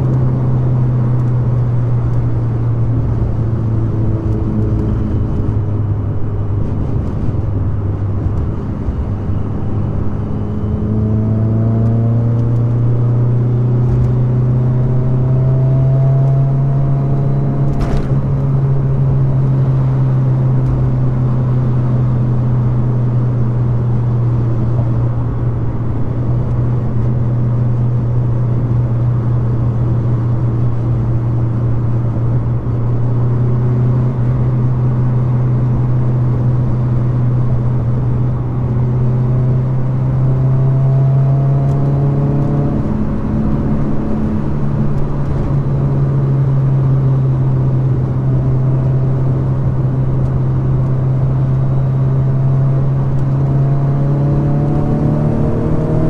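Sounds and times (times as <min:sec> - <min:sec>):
car engine cruising: 0:00.0 - 0:56.0
road and wind noise: 0:00.0 - 0:56.0.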